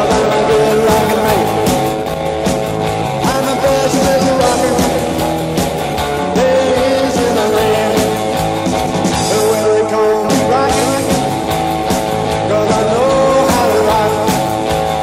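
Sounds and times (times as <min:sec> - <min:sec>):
rock and roll music with singing: 0:00.0 - 0:15.0.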